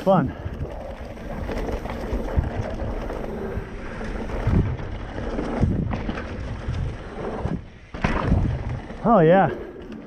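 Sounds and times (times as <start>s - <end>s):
wind rushing over microphone: 0.2s - 9.5s
bike thumping and rattling: 0.5s - 10.0s.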